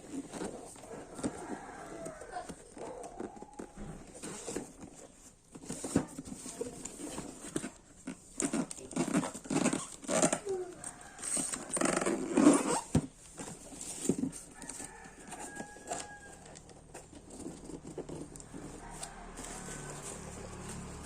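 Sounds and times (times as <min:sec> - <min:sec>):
cardboard box and packaging handled: 0:00.0 - 0:21.0.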